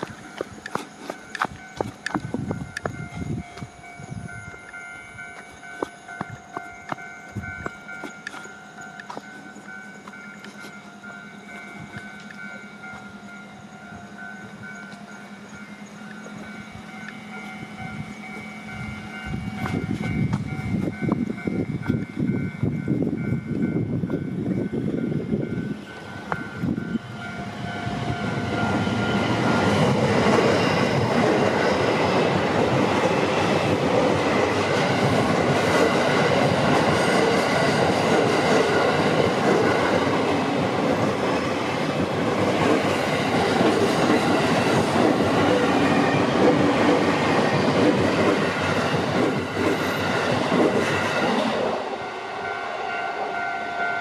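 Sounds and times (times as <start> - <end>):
train wheels clattering on rails: 0.0 - 52.0
crossing warning bell ringing: 0.0 - 54.0.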